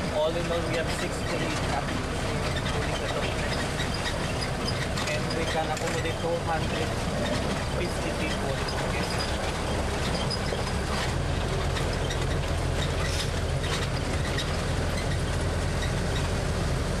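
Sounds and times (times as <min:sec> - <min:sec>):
engine humming: 0:00.0 - 0:17.0
vehicle body rattling: 0:00.0 - 0:17.0.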